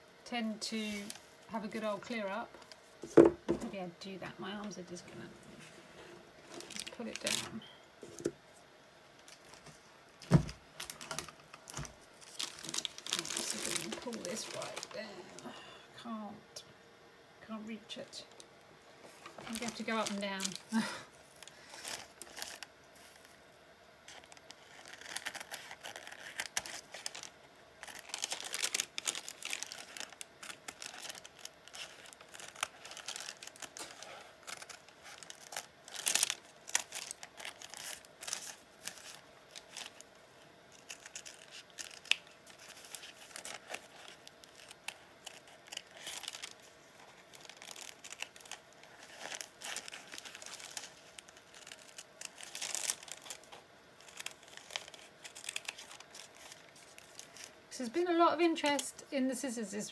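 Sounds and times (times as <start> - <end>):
paper crinkling: 5.6 - 8.3, 9.2 - 15.2, 18.4 - 58.8.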